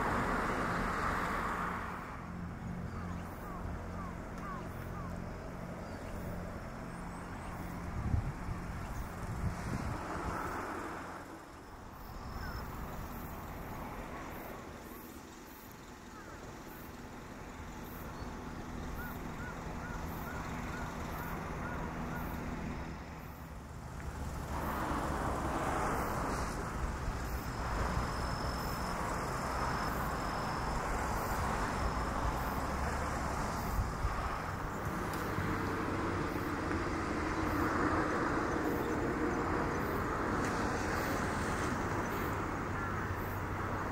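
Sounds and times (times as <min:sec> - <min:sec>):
distant road traffic: 0:00.0 - 0:43.9.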